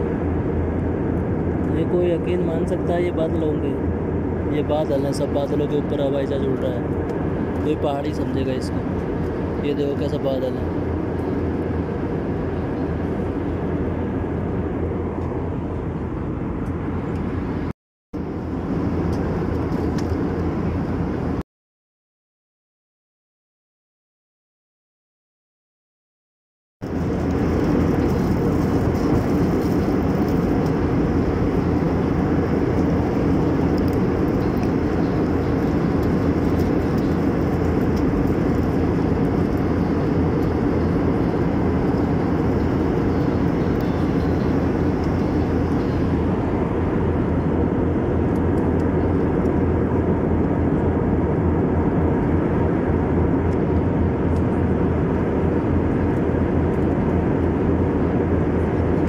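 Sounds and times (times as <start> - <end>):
jet airliner cabin drone: 0.0 - 21.4, 26.8 - 59.0.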